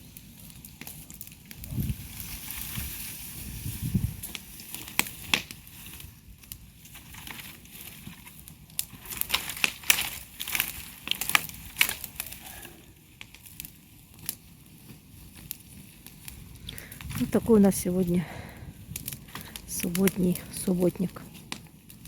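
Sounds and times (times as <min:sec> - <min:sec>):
bonfire crackling: 0:00.0 - 0:22.0
fire hiss: 0:00.0 - 0:22.0.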